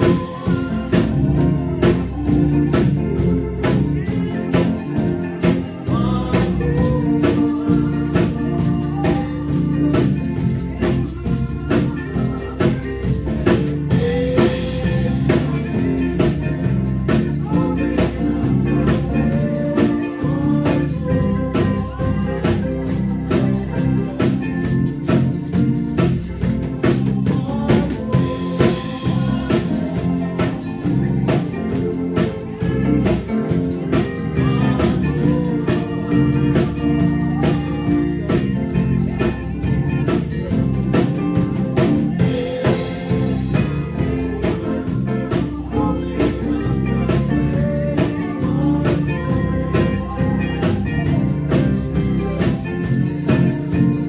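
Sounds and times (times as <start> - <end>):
gospel band with steady beat: 0.0 - 54.0
man singing into a microphone: 0.0 - 54.0
tambourine shaking: 0.0 - 54.0.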